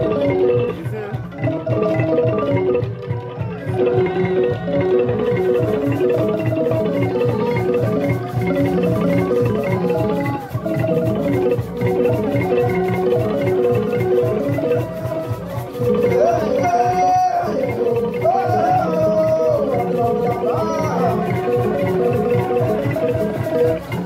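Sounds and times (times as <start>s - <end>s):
steady drumbeat: 0.0s - 24.0s
xylophone music: 0.0s - 24.0s.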